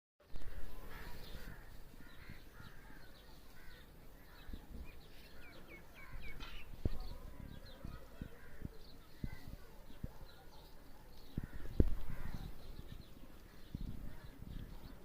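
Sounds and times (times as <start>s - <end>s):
birds calling and chirping: 0.3s - 15.0s.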